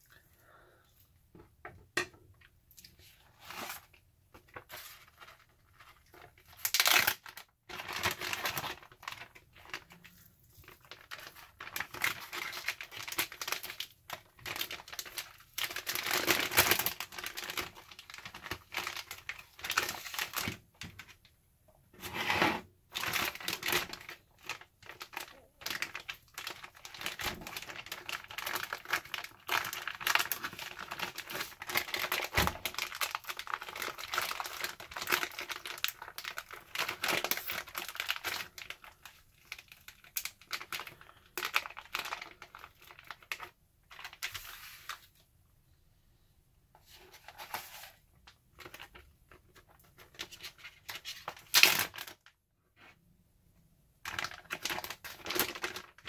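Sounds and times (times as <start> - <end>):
plastic bag crinkling: 3.0 - 21.2, 22.9 - 45.1, 47.0 - 52.3, 54.0 - 56.0.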